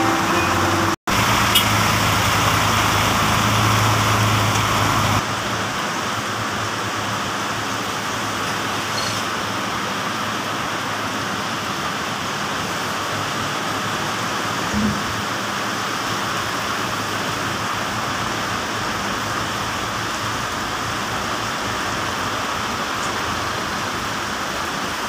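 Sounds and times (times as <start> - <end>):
heavy rain on pavement: 0.5 - 25.0.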